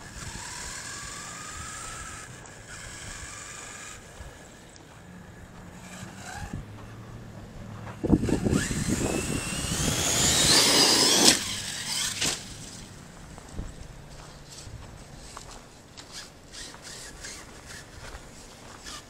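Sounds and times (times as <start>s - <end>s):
electric motor whining: 0.0s - 14.6s, 16.0s - 18.1s.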